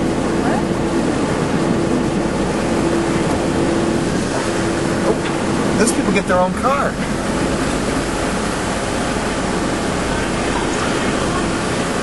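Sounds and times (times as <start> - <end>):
rushing air: 0.0 - 12.0.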